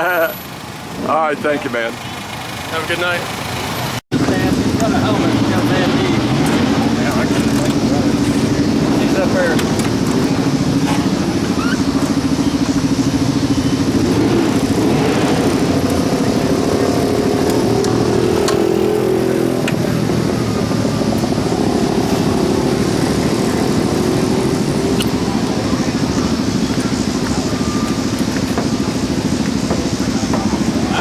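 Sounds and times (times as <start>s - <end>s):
race car engines running loudly: 0.0s - 31.0s.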